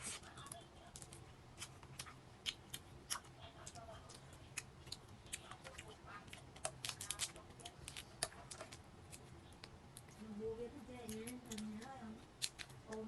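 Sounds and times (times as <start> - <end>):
crab shell cracking while eating: 0.4 - 10.2, 11.0 - 13.0.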